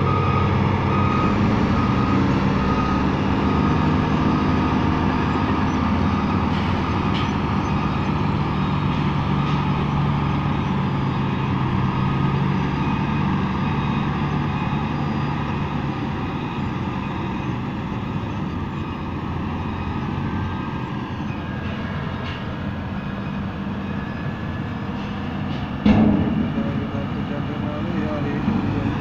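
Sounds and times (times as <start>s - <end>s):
bulldozer diesel engine droning: 0.0s - 29.0s.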